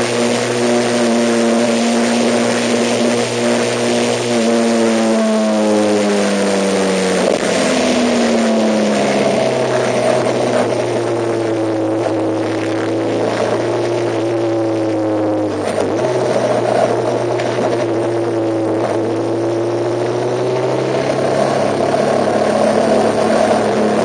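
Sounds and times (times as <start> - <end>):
road and wind noise: 0.0 - 24.0
vehicle engine running: 0.0 - 24.0.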